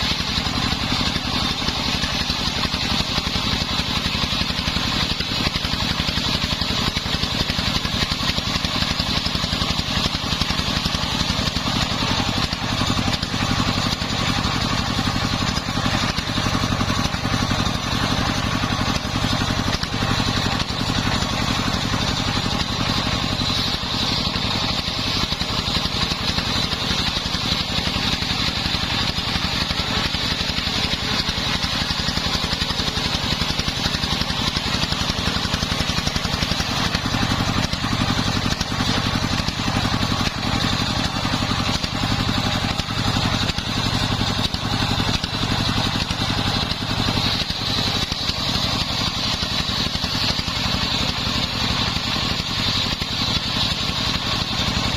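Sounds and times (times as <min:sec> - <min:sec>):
high steady saw whine: 0:00.0 - 0:54.9
sawmill engine running: 0:00.0 - 0:54.9.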